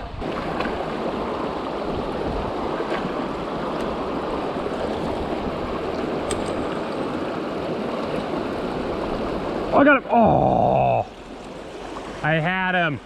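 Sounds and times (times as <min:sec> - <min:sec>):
creek water rushing over rocks: 0:00.0 - 0:13.0.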